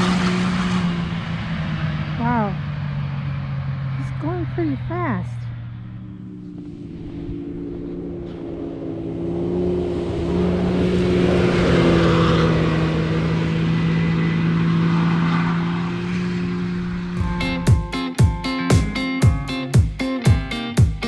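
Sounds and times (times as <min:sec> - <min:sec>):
off-road vehicle engine passing: 0:00.0 - 0:17.7.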